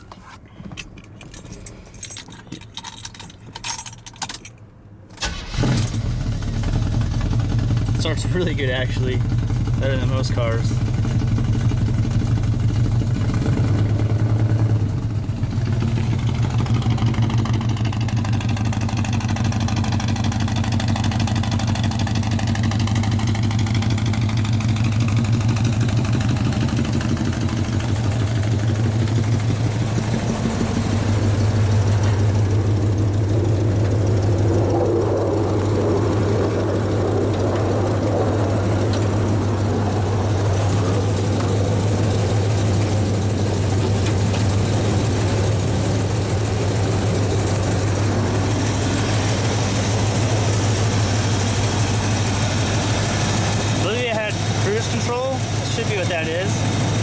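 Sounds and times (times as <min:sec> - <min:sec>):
misfiring engine idling: 0:05.2 - 0:57.0.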